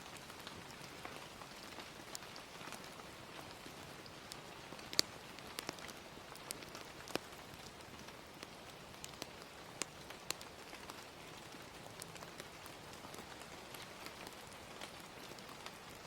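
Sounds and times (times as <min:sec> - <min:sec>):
gentle rain hissing: 0:00.0 - 0:16.0
wood fire popping and crackling: 0:00.0 - 0:16.0.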